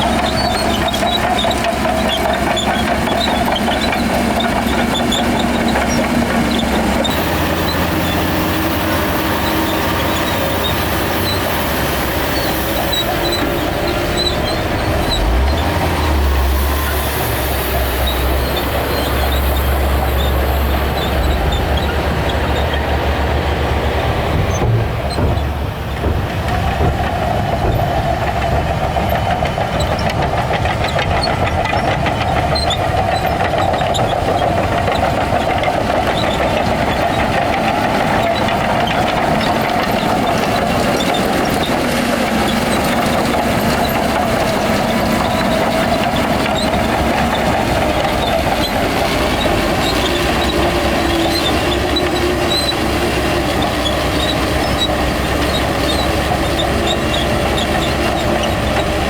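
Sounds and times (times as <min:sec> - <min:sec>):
heavy diesel machinery engine rumble: 0:00.0 - 0:59.0.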